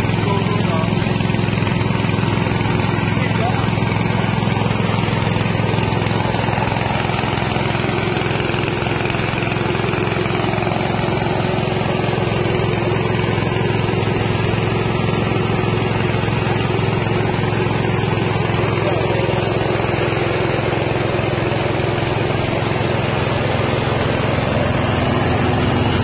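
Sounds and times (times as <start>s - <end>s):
rice milling machine running: 0.0s - 26.0s.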